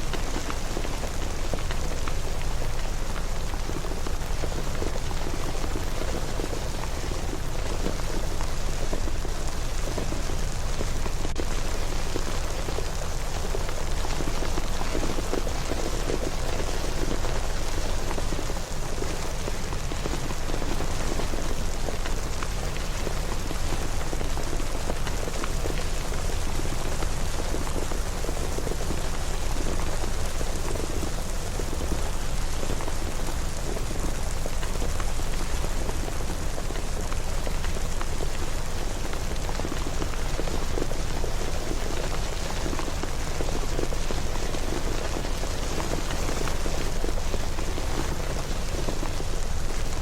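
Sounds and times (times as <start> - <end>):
rain pattering on surfaces: 0.0 - 50.0.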